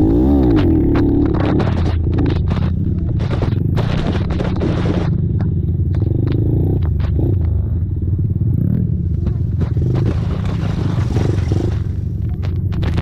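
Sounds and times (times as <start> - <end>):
racing atv engines: 0.0 - 13.0
sharp knocks and scraping clatter: 0.1 - 7.7, 8.6 - 13.0.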